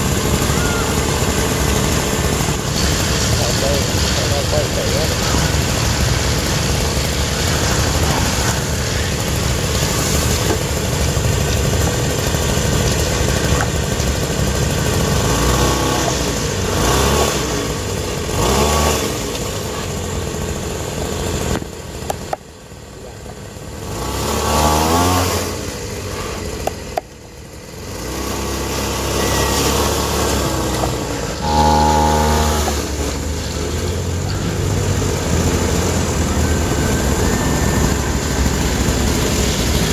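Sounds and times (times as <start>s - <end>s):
toy truck motor revving: 0.0s - 22.4s, 23.2s - 39.9s.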